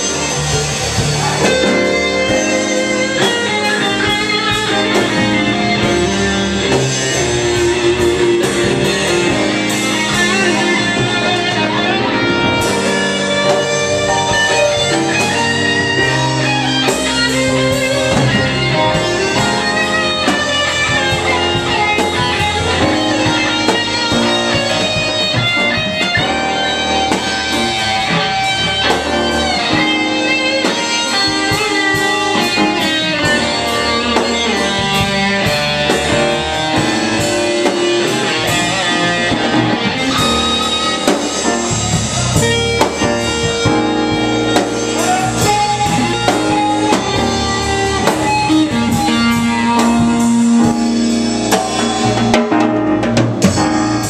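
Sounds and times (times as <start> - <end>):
drum kit: 0.0 - 54.0
electric guitar playing notes: 0.0 - 54.0.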